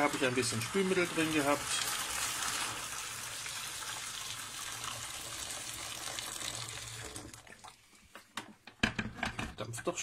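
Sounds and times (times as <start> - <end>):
water pouring from kettle: 0.0 - 8.1.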